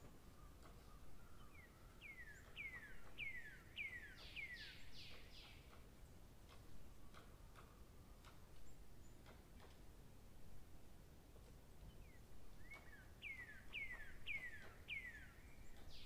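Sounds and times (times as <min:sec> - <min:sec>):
faint clicks: 0:00.0 - 0:10.5, 0:11.3 - 0:16.0.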